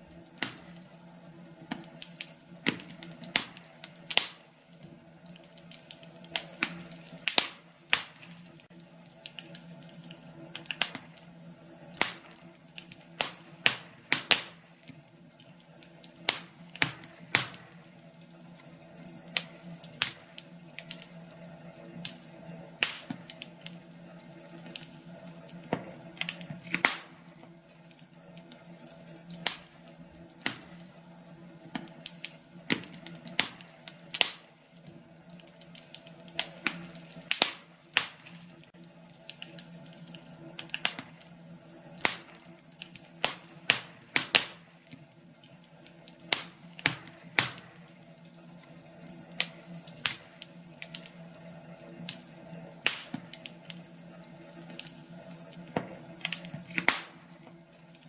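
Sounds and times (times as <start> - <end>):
faint steady hum: 0.0 - 58.0
firewood crackling: 0.0 - 58.0.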